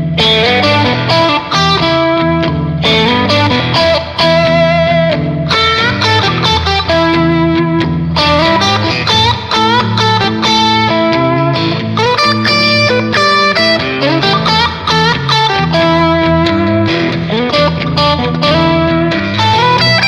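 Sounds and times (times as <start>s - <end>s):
blues backing band: 0.0s - 20.0s
electric guitar lead licks: 0.0s - 20.0s.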